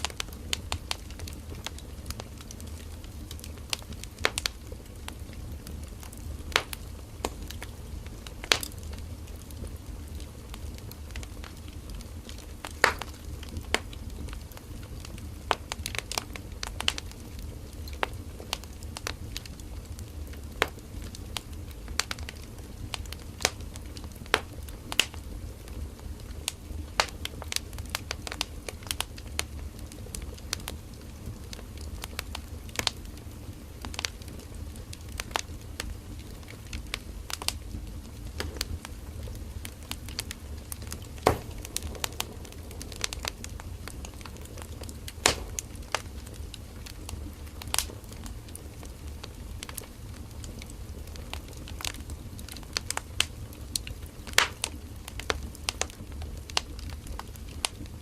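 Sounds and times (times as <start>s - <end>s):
firewood crackling and popping: 0.0s - 58.0s
low rumble of fire: 0.0s - 58.0s.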